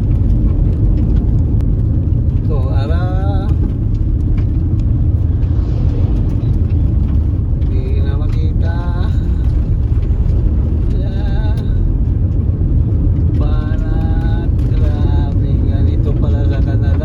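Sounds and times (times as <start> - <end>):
car driving on dirt road: 0.0 - 17.0.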